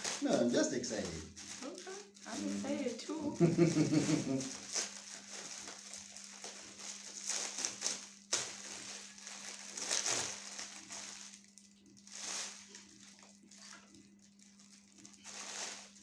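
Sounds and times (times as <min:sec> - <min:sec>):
faint steady hum: 0:00.0 - 0:16.0
wrapping paper rustling and tearing: 0:00.0 - 0:16.0.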